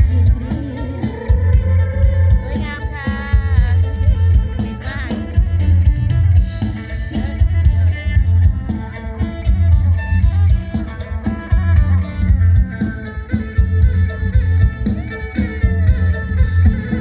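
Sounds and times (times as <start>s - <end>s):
instrumental band music: 0.0s - 17.0s.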